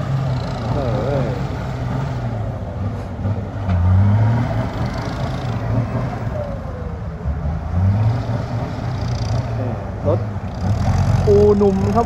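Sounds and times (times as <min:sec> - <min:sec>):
heavy diesel engines droning: 0:00.0 - 0:12.0.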